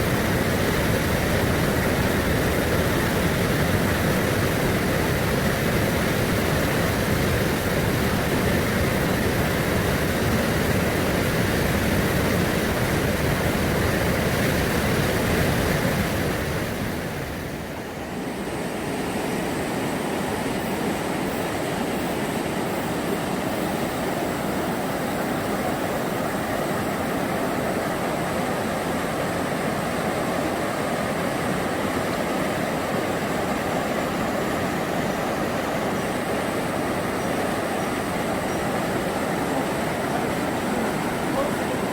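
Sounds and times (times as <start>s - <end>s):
rushing mountain stream: 0.0s - 41.9s.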